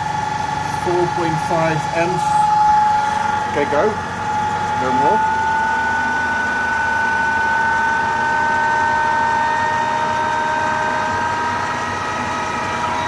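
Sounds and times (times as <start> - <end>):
motor whine: 0.0 - 13.0.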